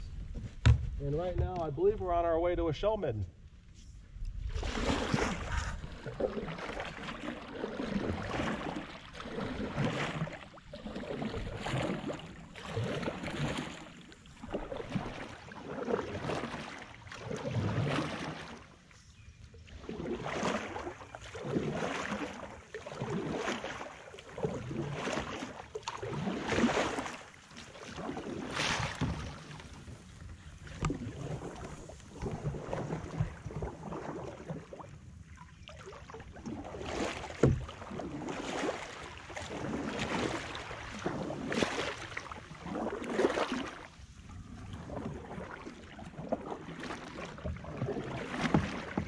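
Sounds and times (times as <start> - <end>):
paddle splashing through water: 4.0 - 49.0.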